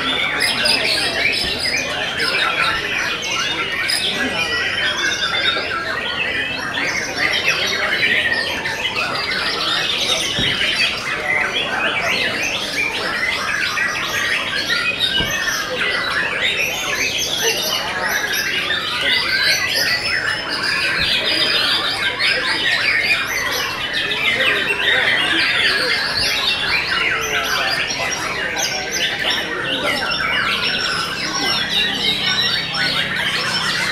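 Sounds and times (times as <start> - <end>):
birds singing in chorus: 0.0 - 33.9.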